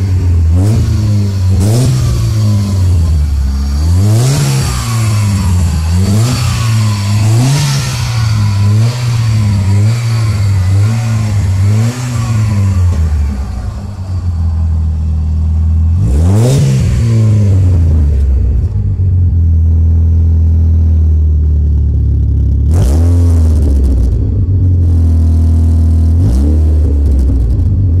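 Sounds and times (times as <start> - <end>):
car engine idling: 0.0 - 22.7
car engine revving through exhaust: 0.0 - 28.0.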